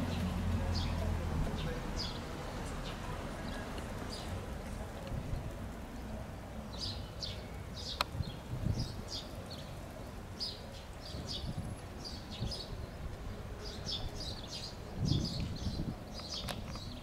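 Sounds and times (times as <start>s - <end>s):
small birds chirping: 0.1s - 5.6s, 6.4s - 17.0s.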